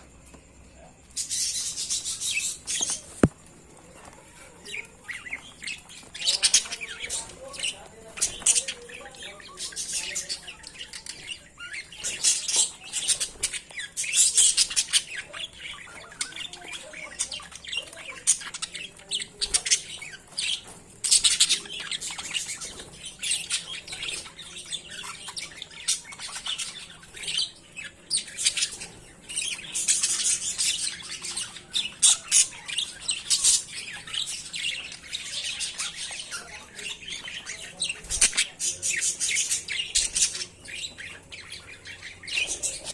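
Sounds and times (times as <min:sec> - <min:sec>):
budgerigars chattering and squawking: 0:00.4 - 0:42.9.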